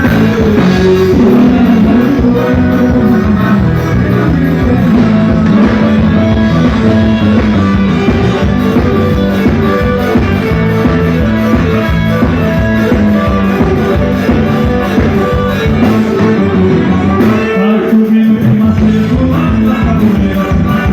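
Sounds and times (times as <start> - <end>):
bass guitar: 0.0 - 20.9
drums: 0.0 - 20.9
electric guitar: 0.0 - 20.9.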